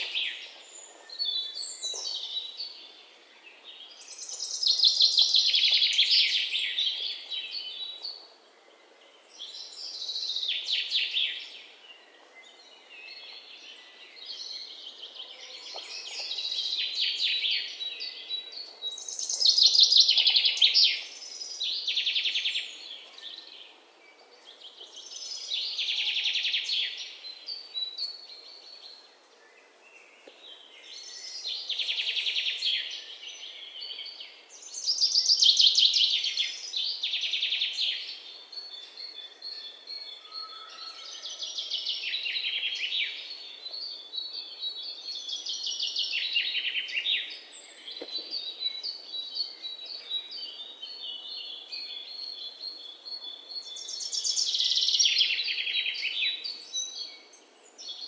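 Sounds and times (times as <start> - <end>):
faint outdoor hiss: 0.0 - 58.0
songbird chirping: 0.0 - 58.0.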